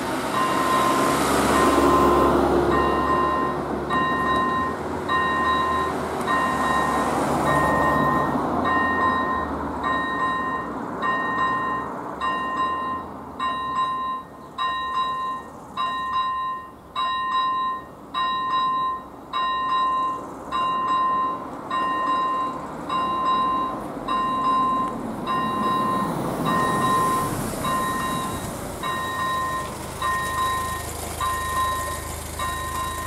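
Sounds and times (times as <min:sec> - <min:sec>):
approaching vehicle rush: 0:00.0 - 0:33.0
electronic crossing bell dinging: 0:00.3 - 0:33.0.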